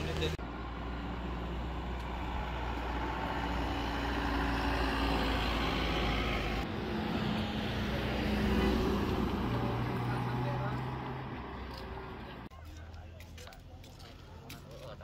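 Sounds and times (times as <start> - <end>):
road traffic hum and rumble: 0.0 - 15.0.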